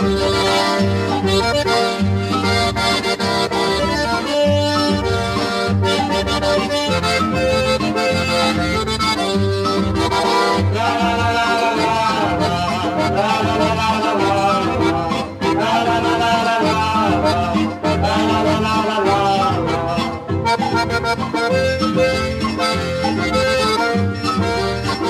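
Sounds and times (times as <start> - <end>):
accordion-led music: 0.0 - 25.0
pulsing bass beat: 0.0 - 25.0.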